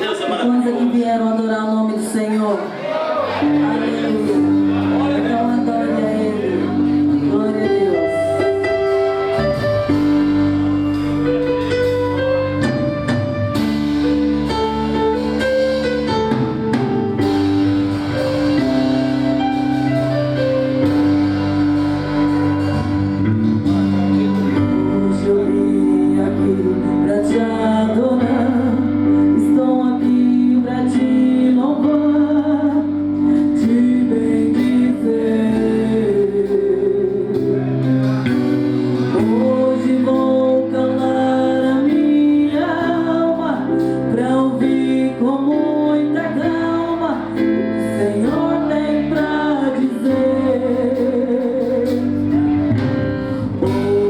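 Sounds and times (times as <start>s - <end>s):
guitar-led church band: 0.0s - 54.0s
gospel singing: 2.7s - 11.4s, 17.4s - 54.0s.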